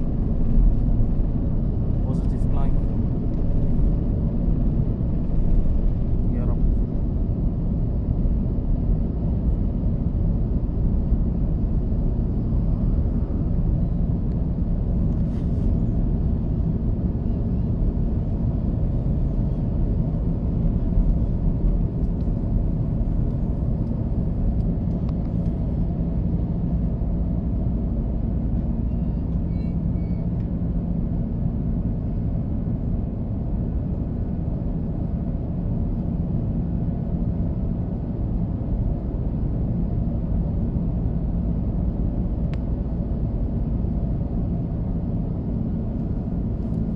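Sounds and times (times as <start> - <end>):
jet engine rumble in cabin: 0.0 - 46.9.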